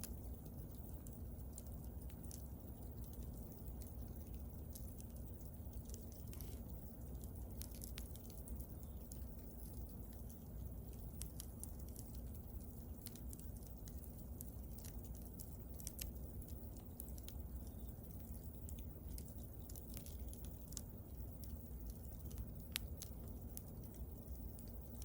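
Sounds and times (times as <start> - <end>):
bonfire crackling and popping: 0.0 - 25.0
low fire rumble: 0.0 - 25.0.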